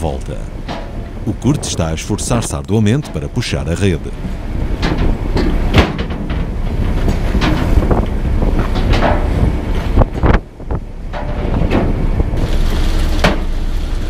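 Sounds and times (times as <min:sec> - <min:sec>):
low engine rumble: 0:00.0 - 0:14.0
waves splashing against hull: 0:00.0 - 0:14.0
wind buffeting microphone: 0:00.0 - 0:14.0.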